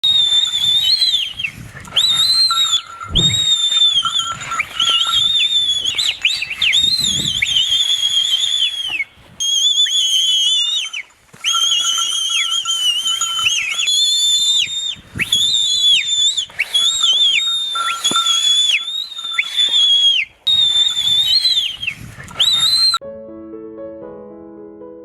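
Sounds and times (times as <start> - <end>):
loud high-pitched warbling whistling: 0.0 - 23.0.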